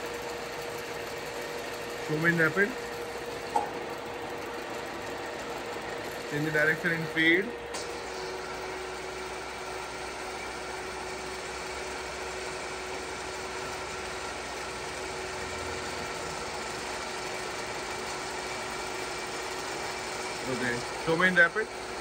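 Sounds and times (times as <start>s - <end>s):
milling machine motor hum: 0.0s - 22.0s.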